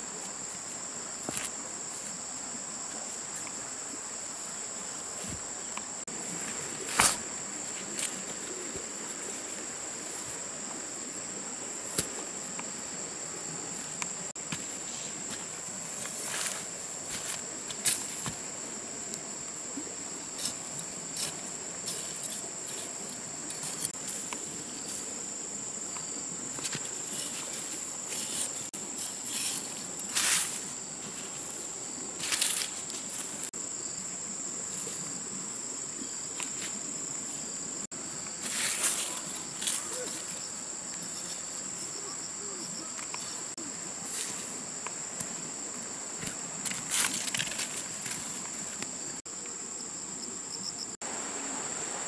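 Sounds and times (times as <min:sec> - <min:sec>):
insects droning: 0:00.0 - 0:52.0
scraping of dry soil and leaves: 0:00.1 - 0:34.0, 0:38.2 - 0:41.9, 0:42.6 - 0:49.2.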